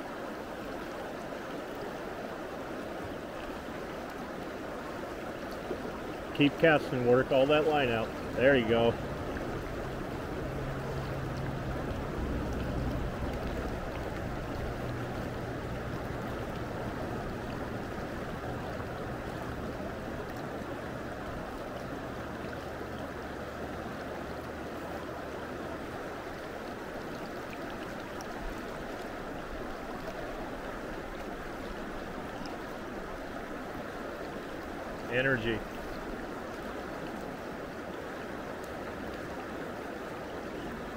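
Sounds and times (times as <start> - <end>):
river current rushing: 0.0 - 40.9.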